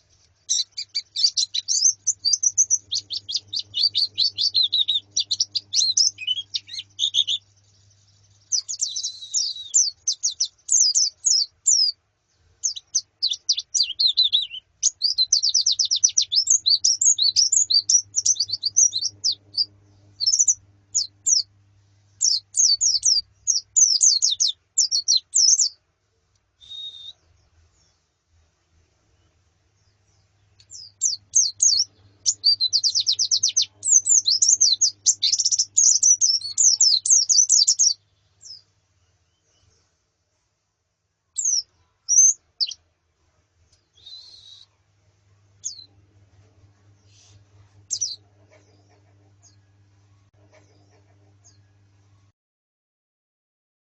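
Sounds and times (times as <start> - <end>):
birds twittering high chirps: 0.0 - 21.5, 22.1 - 25.8, 29.1 - 39.9, 41.4 - 42.8, 43.8 - 44.8, 45.6 - 46.0, 46.8 - 51.8.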